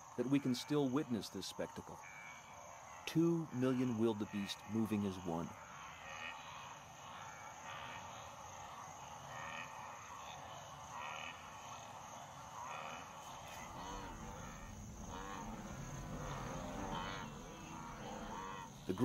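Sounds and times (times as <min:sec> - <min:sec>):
high insect trill: 0:00.0 - 0:19.0
wildebeest grunting and calling: 0:00.0 - 0:19.0.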